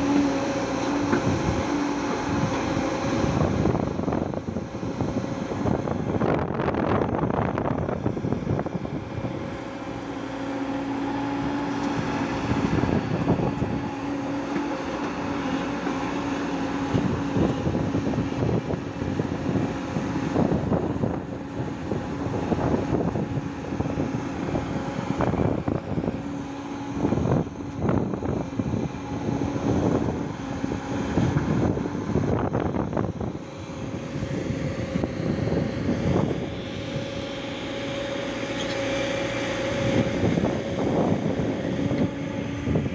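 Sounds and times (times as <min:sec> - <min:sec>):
diesel excavator engine humming: 0:00.0 - 0:42.9.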